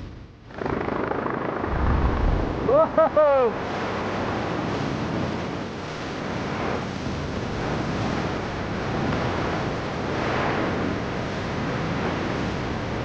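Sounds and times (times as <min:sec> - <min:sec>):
wind rushing over microphone: 0:01.6 - 0:13.0.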